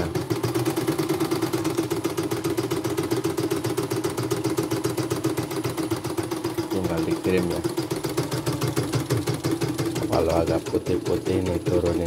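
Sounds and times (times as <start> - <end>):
embroidery machine stitching: 0.0 - 12.0.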